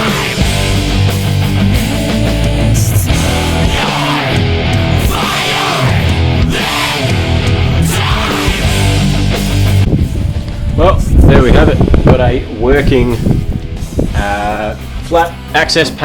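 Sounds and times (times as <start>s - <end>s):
heavy rock music: 0.0s - 16.0s.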